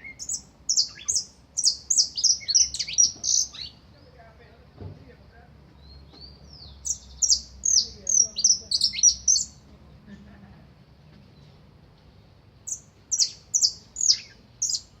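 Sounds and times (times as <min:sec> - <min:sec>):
songbird singing: 0:00.0 - 0:10.4, 0:11.1 - 0:15.0.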